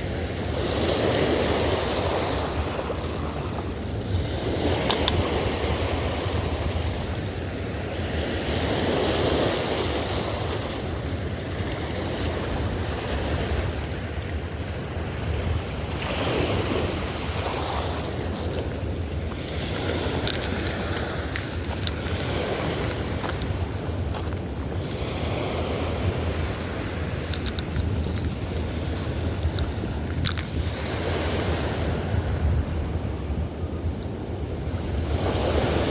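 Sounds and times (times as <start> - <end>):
river water rushing and lapping: 0.0 - 35.9
wind rumbling on microphone: 0.0 - 35.9.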